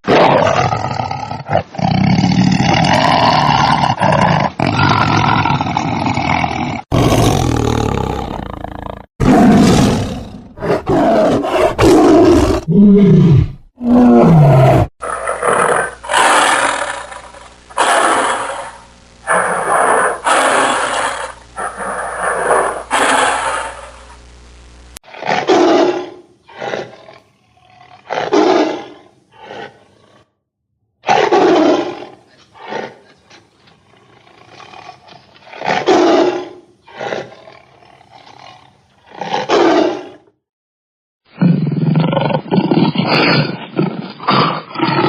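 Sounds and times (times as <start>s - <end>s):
tiger roaring: 0.0s - 24.1s, 25.1s - 30.3s, 31.0s - 40.3s, 41.4s - 45.0s.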